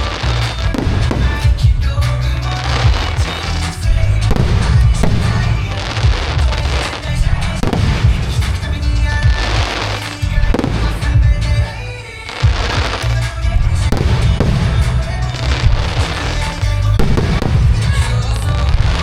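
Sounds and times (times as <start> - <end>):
fireworks booms and bangs: 0.0 - 19.0
music over loudspeakers: 0.0 - 19.0.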